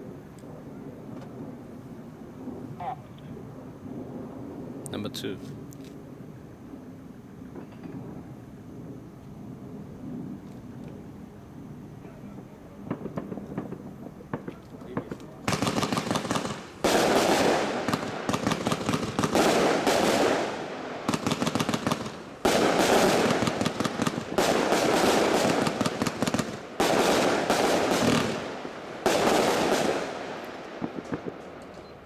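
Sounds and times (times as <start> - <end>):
firework bangs and crackles: 0.0 - 32.0.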